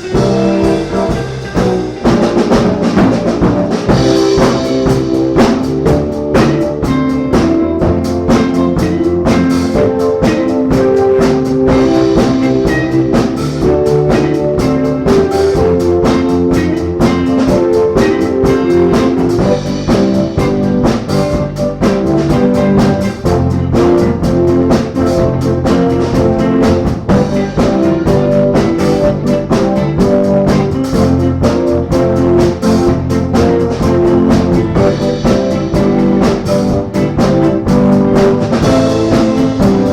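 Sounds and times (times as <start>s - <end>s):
drum kit beat: 0.0s - 39.9s
guitar: 0.0s - 39.9s
jazz band playing: 0.0s - 39.9s.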